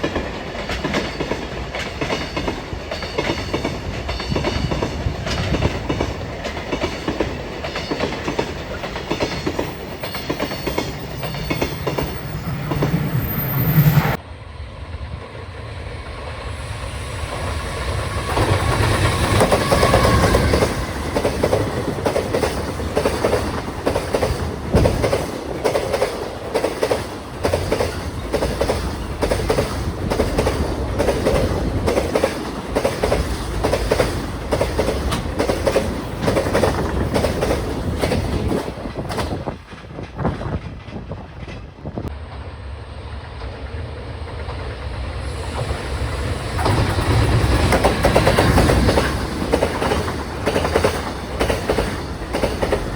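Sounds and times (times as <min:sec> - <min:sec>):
freight train wheels clacking: 0:00.0 - 0:14.2, 0:16.0 - 0:42.1, 0:43.2 - 0:52.9.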